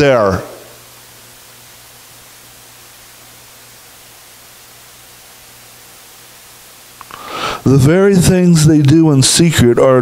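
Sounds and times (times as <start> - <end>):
low even hum: 0.0 - 10.0
steady hiss: 0.0 - 10.0.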